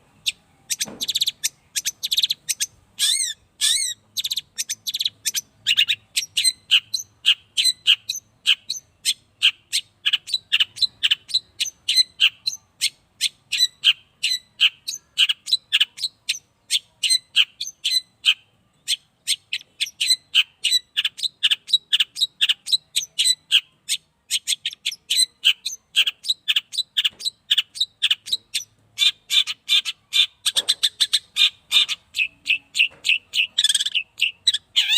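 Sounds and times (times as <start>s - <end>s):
bird chirping rapidly: 0.1s - 34.9s.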